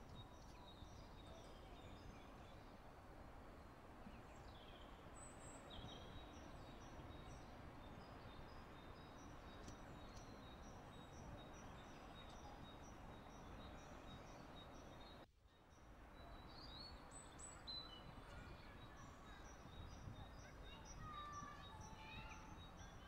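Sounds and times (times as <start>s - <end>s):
low rush of wind: 0.0s - 23.0s
small birds chirping: 0.0s - 23.0s.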